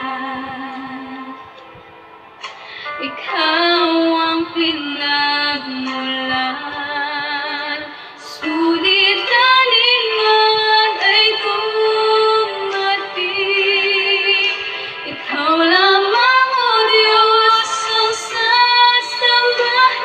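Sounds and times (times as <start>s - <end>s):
woman singing a slow prayer song: 3.0s - 20.0s.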